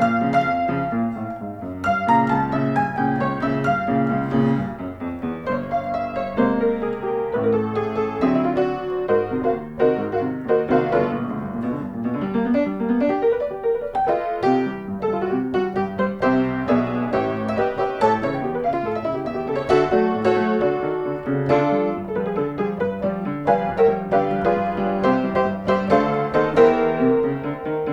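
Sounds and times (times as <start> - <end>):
piano music: 0.0 - 27.9.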